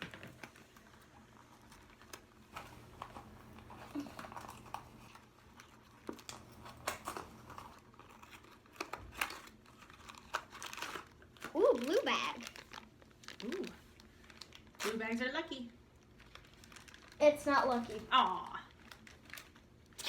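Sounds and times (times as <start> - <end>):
packaging crinkling: 0.0 - 20.0.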